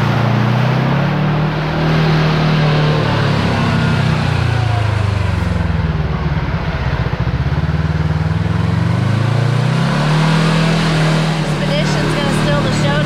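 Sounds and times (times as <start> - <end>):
off-road vehicle engine: 0.0 - 13.0
tyre and road noise: 0.0 - 13.0.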